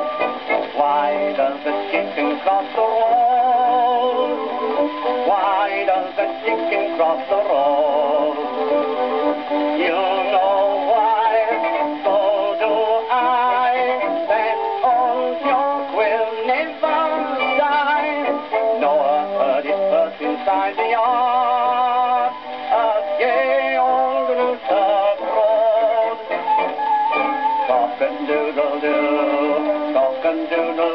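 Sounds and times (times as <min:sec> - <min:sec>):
small band accompaniment: 0:00.0 - 0:21.2, 0:22.1 - 0:30.9
man singing with vibrato: 0:00.0 - 0:30.9.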